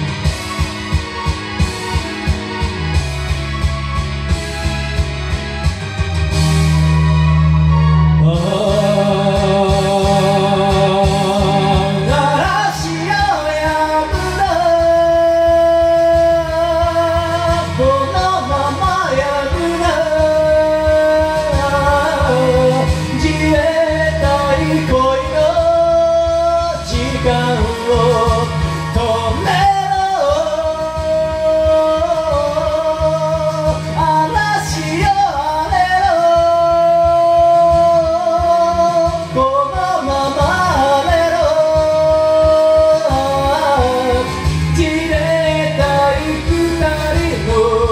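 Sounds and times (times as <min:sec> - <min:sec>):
karaoke backing track: 0:00.0 - 0:47.9
person singing karaoke: 0:00.0 - 0:47.9.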